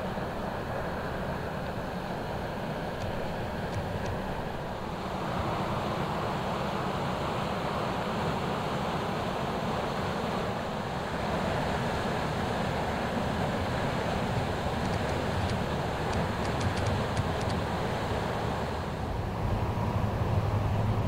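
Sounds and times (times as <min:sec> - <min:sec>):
ship engine low rumble: 0:00.0 - 0:21.0
water rushing: 0:00.0 - 0:21.0.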